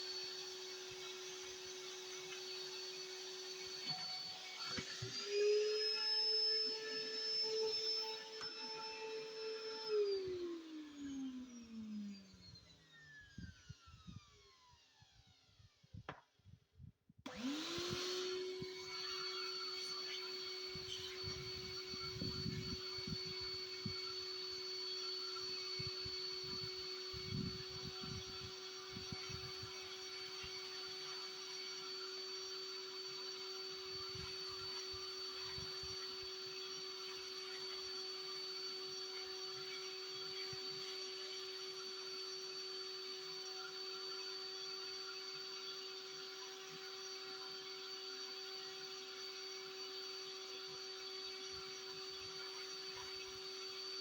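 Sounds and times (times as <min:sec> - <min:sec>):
vacuum cleaner motor whine: 0:00.0 - 0:16.2, 0:17.3 - 0:54.0.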